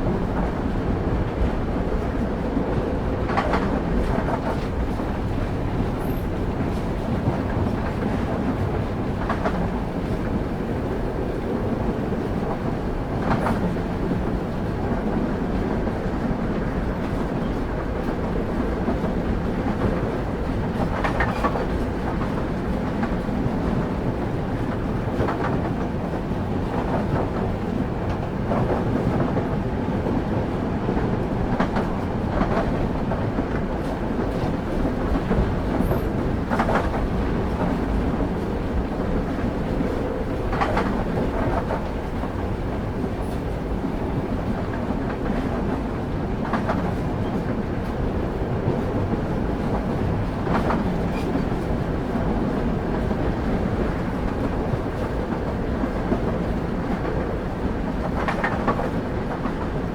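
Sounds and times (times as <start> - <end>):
train wheels rumbling on track: 0.0 - 59.9
wheels clacking on rail joints: 0.0 - 59.9.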